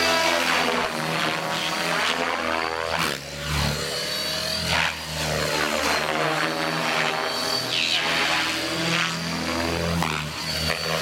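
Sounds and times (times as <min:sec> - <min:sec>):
high motor whine: 0:00.0 - 0:11.0.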